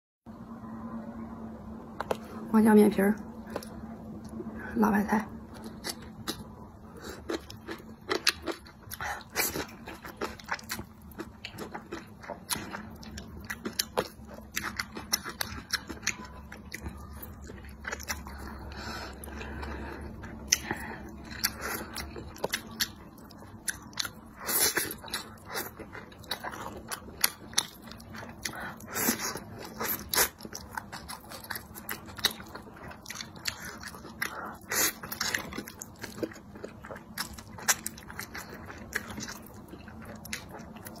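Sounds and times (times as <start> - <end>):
person slurping and chewing noodles: 5.5 - 41.0.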